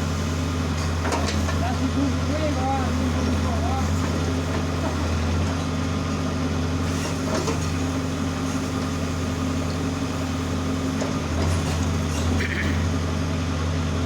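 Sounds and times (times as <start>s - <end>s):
backhoe diesel engine running: 0.0s - 14.0s.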